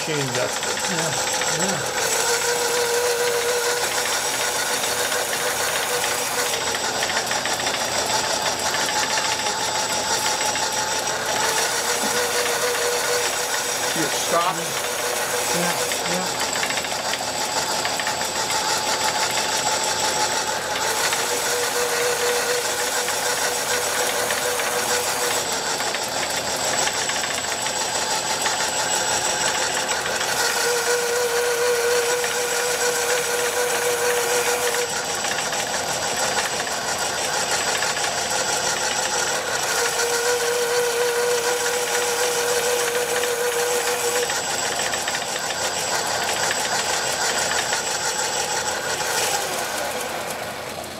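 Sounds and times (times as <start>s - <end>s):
machine hum: 0.0s - 50.9s
screw machine clattering: 0.0s - 50.9s.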